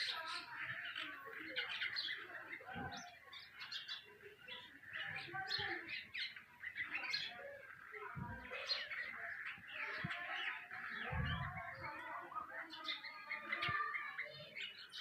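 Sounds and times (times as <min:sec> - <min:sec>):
nightingales singing: 0:00.0 - 0:15.0.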